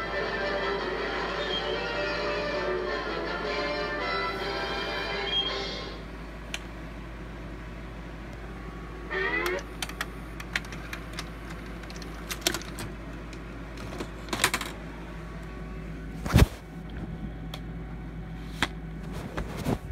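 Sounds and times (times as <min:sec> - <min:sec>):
low electrical hum: 0:00.0 - 0:19.9.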